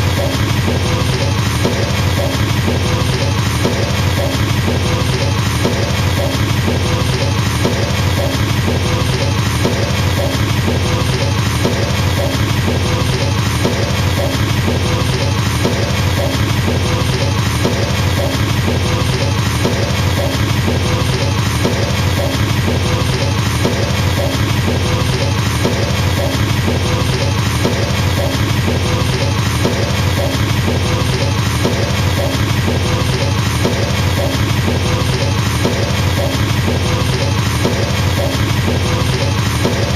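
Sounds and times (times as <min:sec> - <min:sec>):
fast double kick drumming: 0:00.0 - 0:39.9.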